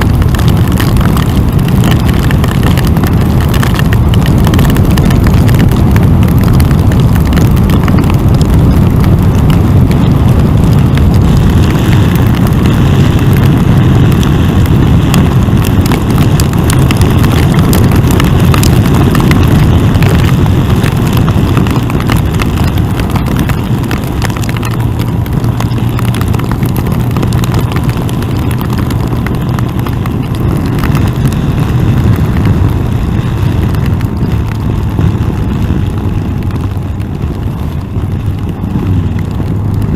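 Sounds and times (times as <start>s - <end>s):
hail and rain striking: 0.0s - 39.9s
loud wind rush: 0.0s - 39.9s
motorcycle engine running: 0.0s - 39.9s.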